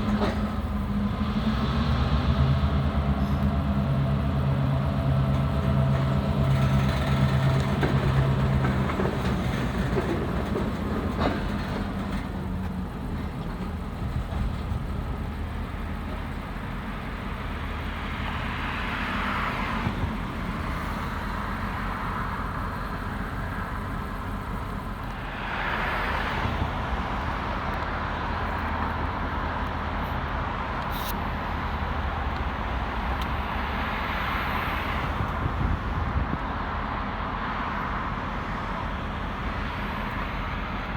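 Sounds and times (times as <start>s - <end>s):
locomotive engine: 0.0s - 40.9s
train wheels rumbling on rails: 0.0s - 40.9s.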